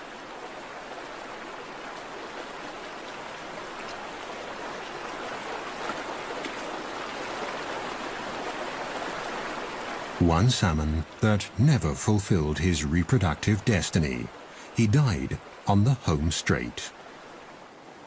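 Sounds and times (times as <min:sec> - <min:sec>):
stream running over rocks: 0:00.0 - 0:18.0.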